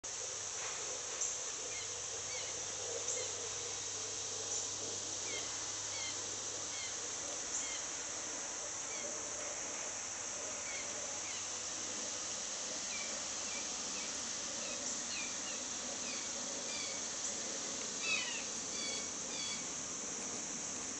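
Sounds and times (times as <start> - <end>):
steady high-pitched hiss: 0.0 - 20.9.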